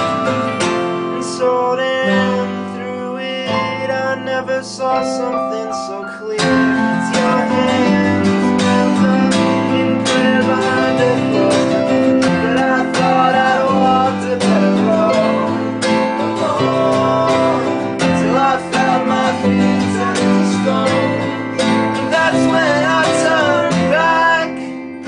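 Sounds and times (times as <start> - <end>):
acoustic guitar strumming: 0.0 - 25.0
electric guitar: 0.0 - 25.0
keyboard: 0.0 - 25.0.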